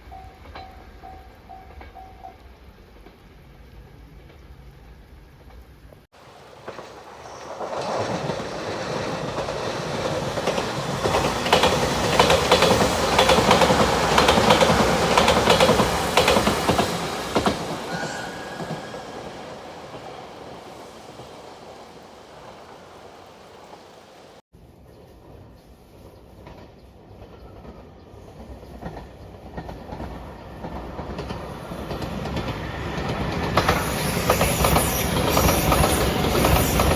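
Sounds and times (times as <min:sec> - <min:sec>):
wheels clacking over rail joints: 0:00.0 - 0:22.9, 0:26.3 - 0:36.9
electric train passing: 0:00.0 - 0:36.9.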